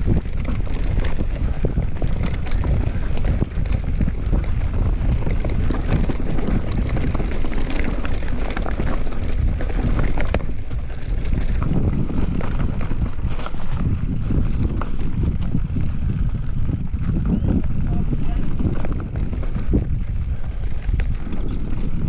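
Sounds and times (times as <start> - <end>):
bike rattling over roots: 0.0 - 22.0
tyres rolling over dirt and stones: 0.0 - 22.0
wind rumbling on microphone: 0.0 - 22.0.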